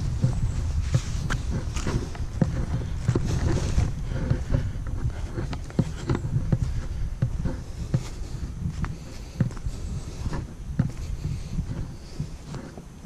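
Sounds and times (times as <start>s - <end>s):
low rumble: 0.0s - 12.6s
footsteps crunching dry leaves: 0.0s - 12.8s.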